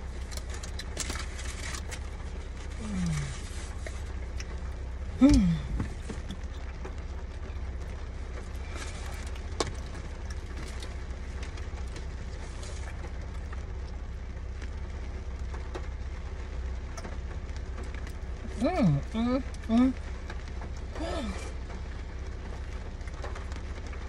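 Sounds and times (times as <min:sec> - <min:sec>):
car cabin rumble and hiss: 0:00.0 - 0:24.0.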